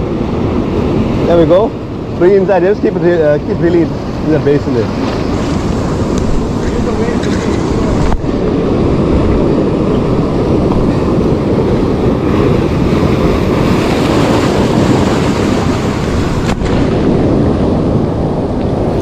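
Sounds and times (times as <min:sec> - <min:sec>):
sea surf washing against rocks: 0:00.0 - 0:19.0
wind buffeting microphone: 0:00.0 - 0:19.0.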